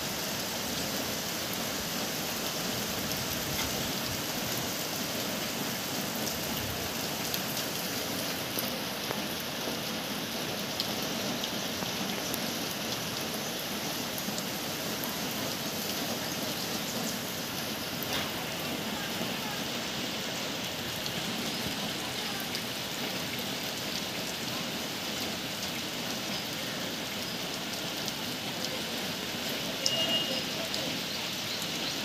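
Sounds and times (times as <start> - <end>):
rain falling on roofs: 0.0 - 32.0.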